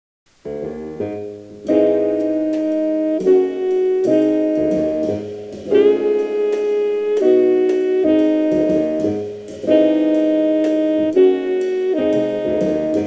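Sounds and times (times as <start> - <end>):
piano chords: 0.4 - 13.0
light drums: 1.2 - 13.0
saxophone: 1.6 - 13.0.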